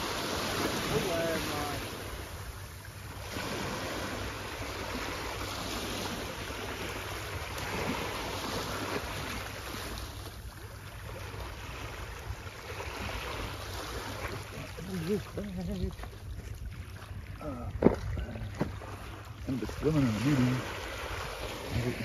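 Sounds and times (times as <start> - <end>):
waves breaking on rocky shore: 0.0 - 22.0.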